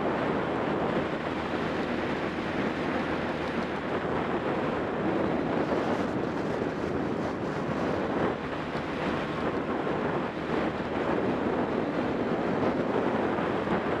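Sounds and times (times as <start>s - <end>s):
kart engine running: 0.0s - 14.0s
wind rushing over microphone: 0.0s - 14.0s.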